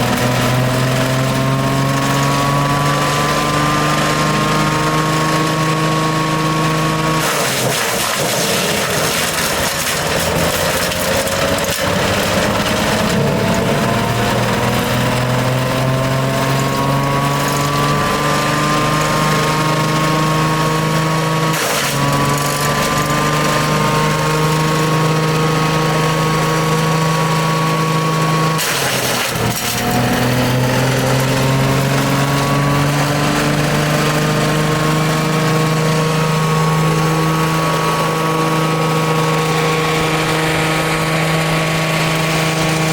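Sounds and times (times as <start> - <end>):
loud burst of shredding noise: 0.0 - 42.9
shredder engine running: 0.0 - 42.9.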